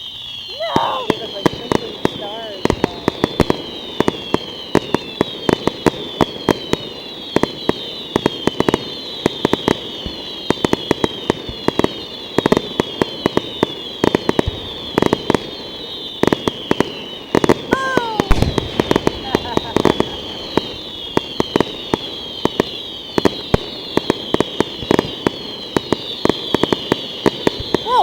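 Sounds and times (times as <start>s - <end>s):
crackling firework pops: 0.0s - 28.0s
heavy firework bangs: 0.0s - 28.0s.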